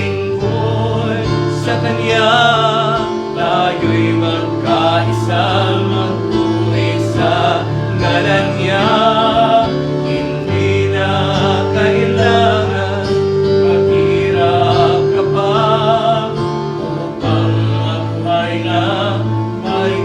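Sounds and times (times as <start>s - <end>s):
gospel singing: 0.0s - 20.0s
instrumental accompaniment: 0.0s - 20.0s.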